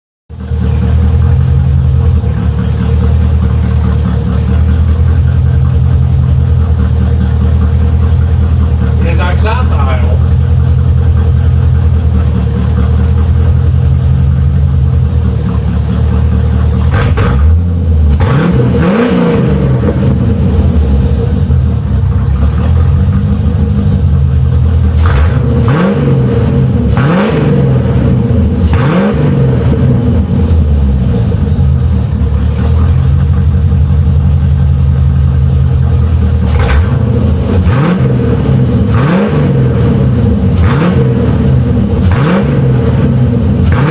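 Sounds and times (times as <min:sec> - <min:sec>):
car exhaust idling and revving: 0:00.3 - 0:43.9.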